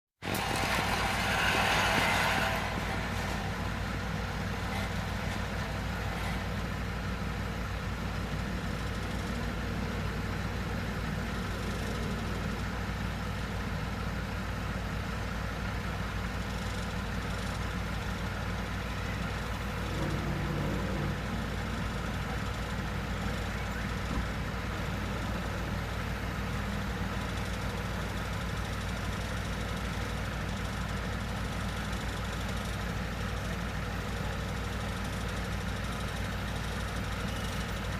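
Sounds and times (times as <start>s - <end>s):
heavy truck engine idling: 0.2s - 37.9s.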